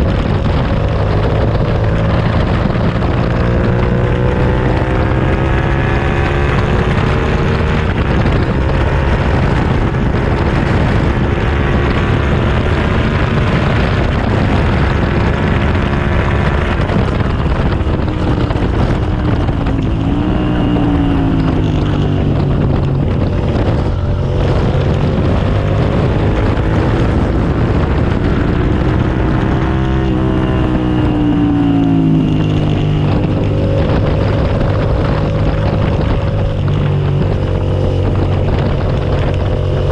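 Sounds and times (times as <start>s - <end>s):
motorcycle engine running hard: 0.0s - 39.9s
wind rushing over microphone: 0.0s - 39.9s.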